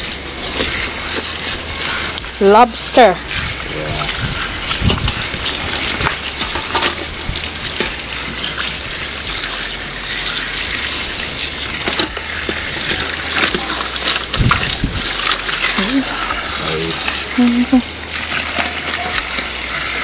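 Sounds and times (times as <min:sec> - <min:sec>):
tap water running into bowl: 0:00.0 - 0:20.0.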